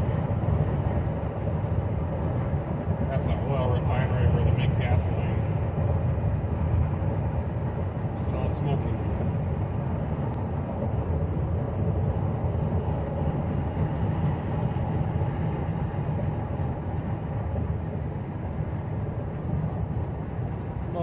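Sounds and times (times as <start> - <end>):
tyres and engine rumble: 0.0 - 21.0.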